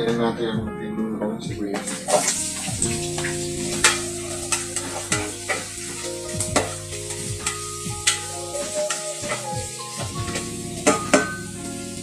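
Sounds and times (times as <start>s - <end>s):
utensil scraping a pot: 1.8s - 11.5s
onions sizzling in oil: 1.8s - 12.0s.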